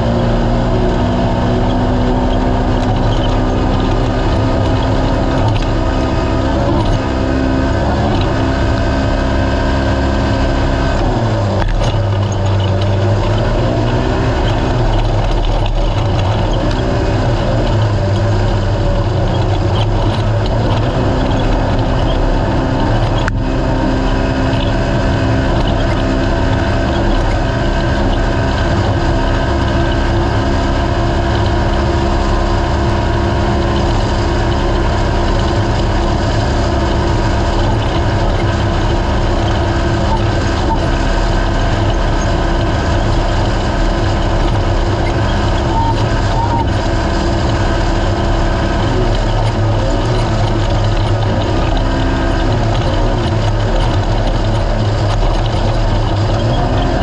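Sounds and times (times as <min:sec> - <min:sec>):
race car engine revving under load: 0:00.0 - 0:57.0.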